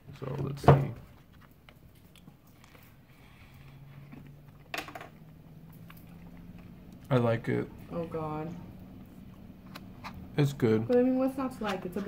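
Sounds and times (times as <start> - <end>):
low steady hum: 0.0 - 12.0
soft chewing: 1.0 - 11.1.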